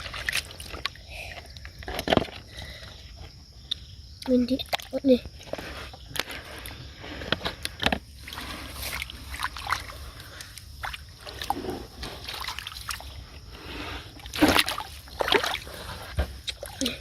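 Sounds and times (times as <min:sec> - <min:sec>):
water splashing and sloshing: 0:00.0 - 0:03.9, 0:04.6 - 0:17.0.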